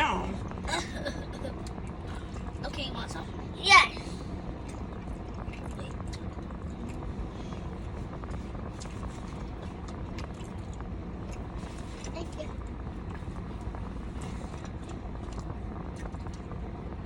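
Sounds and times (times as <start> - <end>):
road and engine rumble in car: 0.0 - 17.0.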